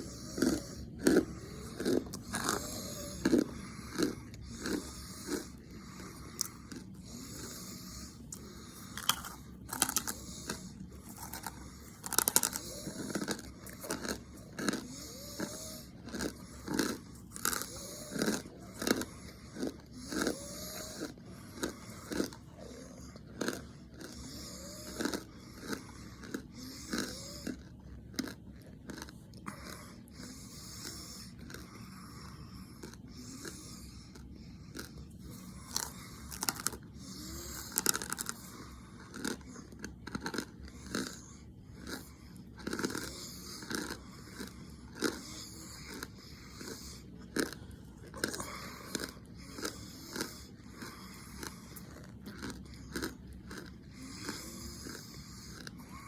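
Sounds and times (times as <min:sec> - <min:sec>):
heavy breathing: 0:00.0 - 0:56.0
person chewing crunchy snack: 0:00.0 - 0:56.0.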